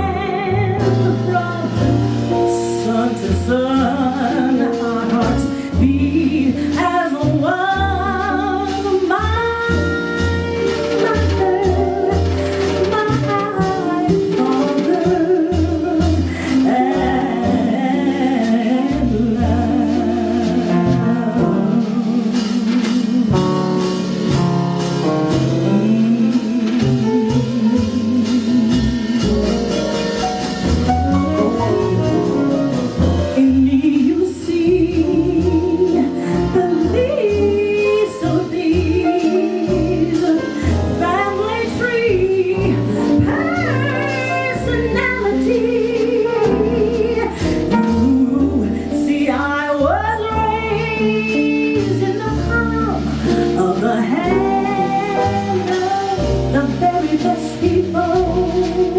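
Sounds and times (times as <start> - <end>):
small jazz band playing: 0.0 - 58.9
woman singing jazz: 0.0 - 58.9.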